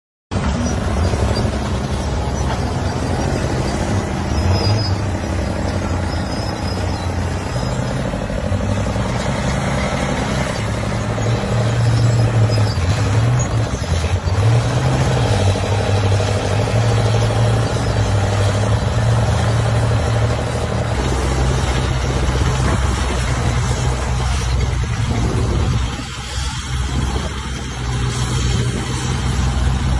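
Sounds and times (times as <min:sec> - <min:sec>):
excavator engine running: 0:00.3 - 0:29.9.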